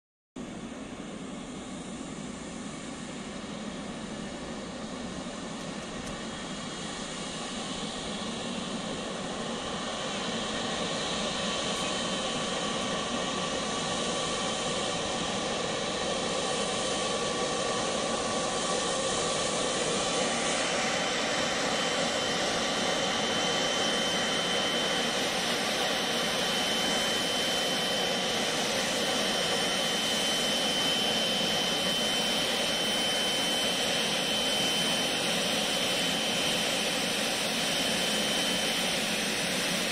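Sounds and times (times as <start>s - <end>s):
jet engines running with high whine: 0.4s - 39.9s.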